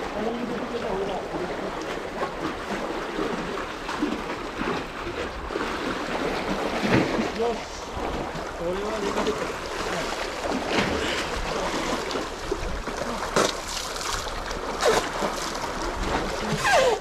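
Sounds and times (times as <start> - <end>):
seawater lapping: 0.0 - 17.0
sharp water splashes: 0.0 - 17.0.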